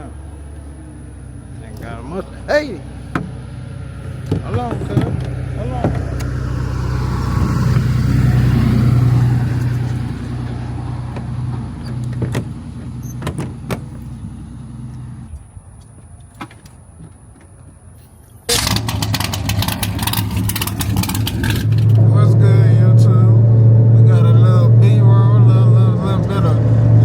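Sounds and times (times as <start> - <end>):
car driving on road: 0.0 - 27.0
car engine running: 0.0 - 27.0.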